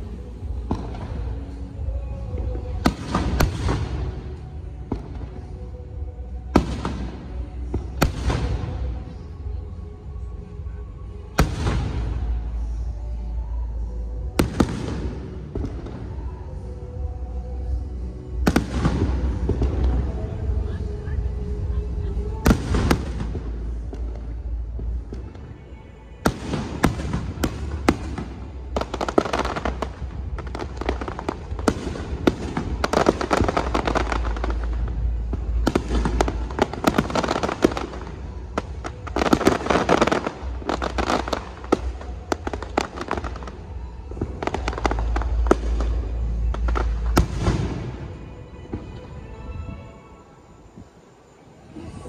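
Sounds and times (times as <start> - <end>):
fireworks bangs and crackling: 0.0 - 9.4, 10.1 - 12.9, 14.2 - 49.8.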